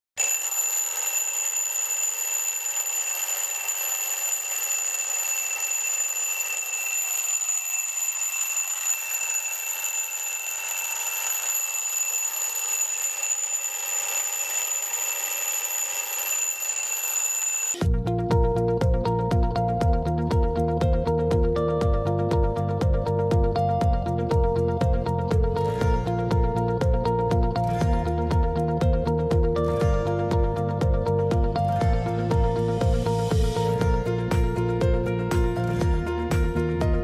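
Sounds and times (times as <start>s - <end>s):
alarm clock bells ringing: 0.2s - 17.8s, 22.4s - 36.0s.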